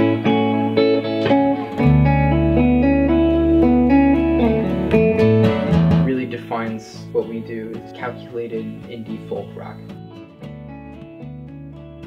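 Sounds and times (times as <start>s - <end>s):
guitars picking notes: 0.0s - 12.0s.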